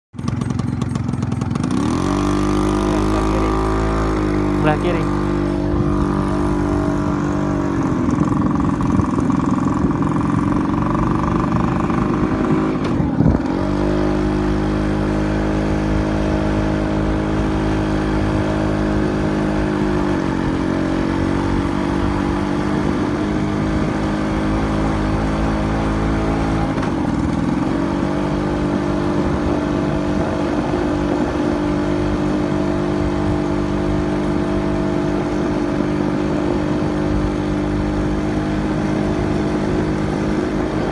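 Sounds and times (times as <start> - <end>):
vehicle engine running: 0.1 - 40.9.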